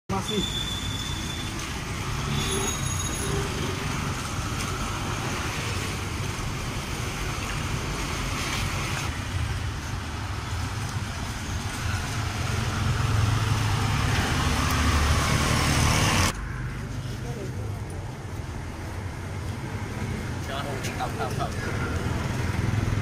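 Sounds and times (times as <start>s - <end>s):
hum of passing traffic: 0.1s - 23.0s.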